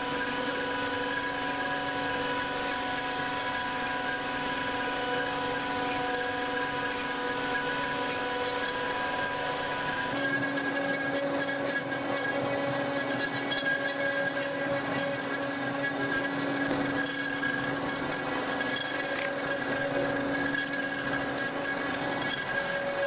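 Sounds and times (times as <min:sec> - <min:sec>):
machinery high whine: 0:00.0 - 0:23.0.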